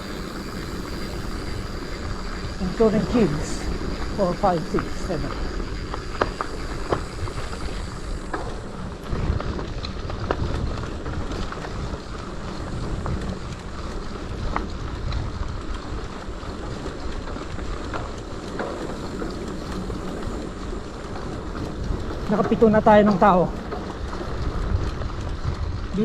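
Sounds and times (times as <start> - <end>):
mountain bike rolling on trail: 0.0 - 26.0
wind buffeting microphone: 0.0 - 26.0.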